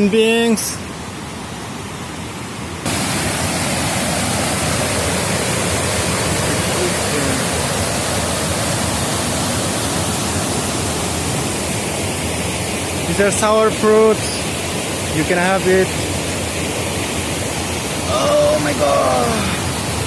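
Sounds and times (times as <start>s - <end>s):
water rushing over spillway: 2.8s - 20.0s.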